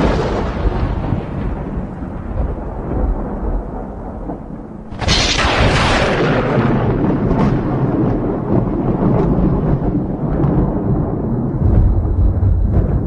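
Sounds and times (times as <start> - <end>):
thunder rumble and crack: 0.0 - 13.0.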